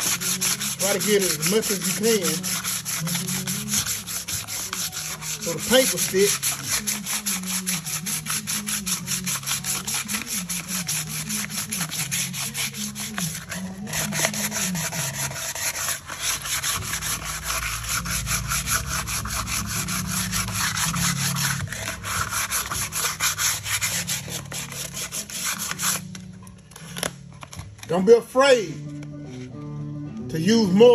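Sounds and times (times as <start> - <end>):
abrasive pad sanding metal: 0.0 - 26.0.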